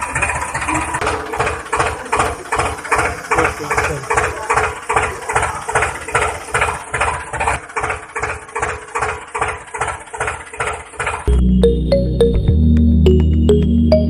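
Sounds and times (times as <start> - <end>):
small engine chugging: 0.0 - 11.4.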